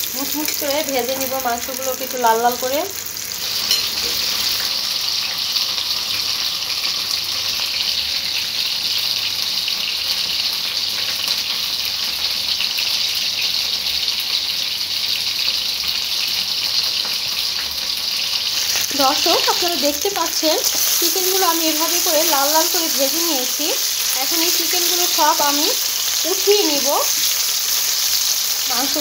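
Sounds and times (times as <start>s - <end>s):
chicken frying in hot oil: 0.0s - 29.0s.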